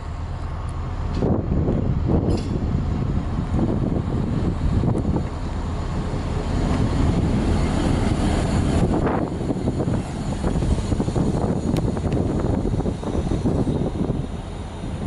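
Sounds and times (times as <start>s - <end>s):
train clanks and squeals: 0.0s - 3.5s, 4.3s - 15.0s
diesel train engine rumble: 0.0s - 15.0s.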